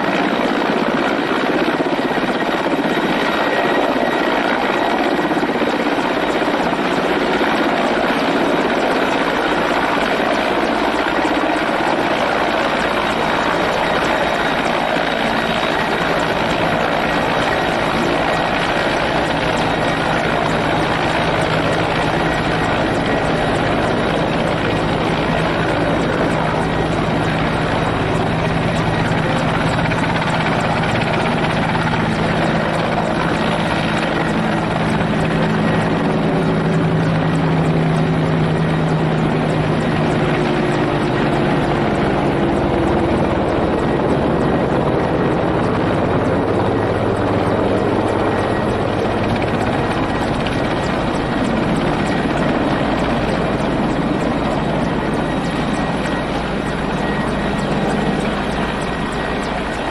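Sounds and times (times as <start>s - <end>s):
helicopter engines and rotor running: 0.0s - 59.9s.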